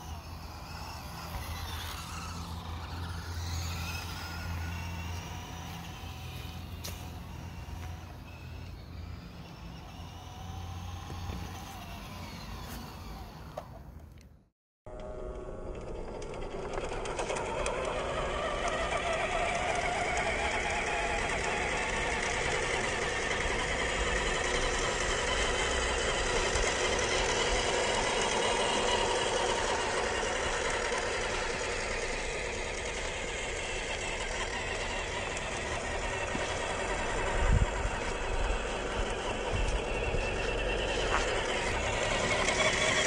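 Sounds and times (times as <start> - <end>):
electric motor and gearbox whirring: 0.0 - 43.0.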